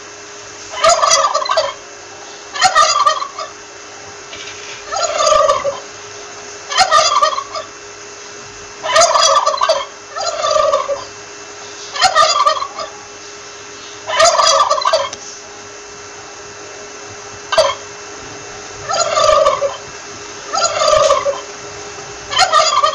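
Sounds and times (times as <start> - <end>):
turkey gobbling: 0.7 - 7.8, 8.8 - 15.2, 17.4 - 22.9.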